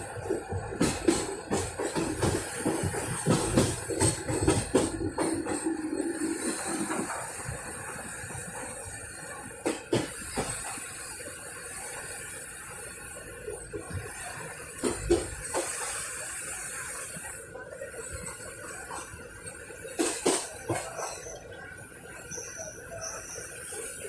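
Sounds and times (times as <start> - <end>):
train running hiss: 0.0 - 24.0.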